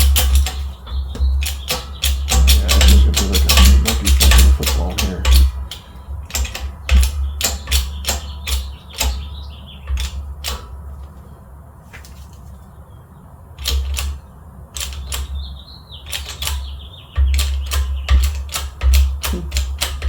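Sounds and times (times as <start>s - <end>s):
sharp metal clicks and knocks: 0.0s - 11.2s, 13.6s - 20.0s.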